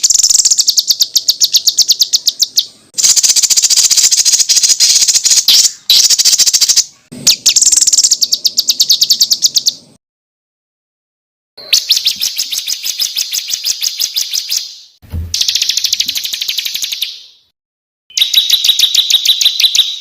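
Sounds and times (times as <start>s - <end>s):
songbird singing sharp notes: 0.0s - 10.0s, 11.6s - 17.5s, 18.1s - 20.0s.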